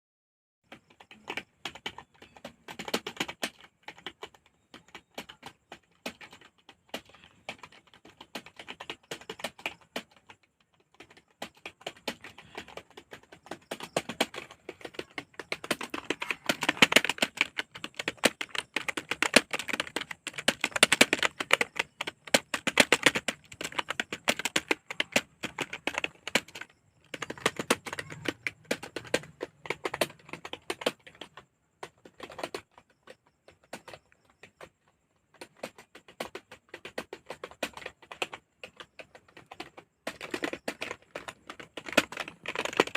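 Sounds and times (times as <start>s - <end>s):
typing on computer keyboard: 0.7s - 42.9s.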